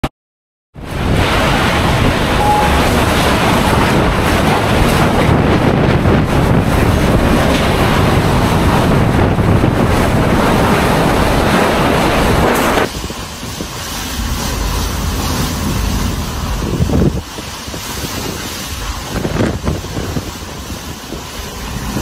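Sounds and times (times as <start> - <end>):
strong wind: 0.7 - 22.0
driving rain: 0.8 - 22.0
wind buffeting microphone: 0.8 - 22.0.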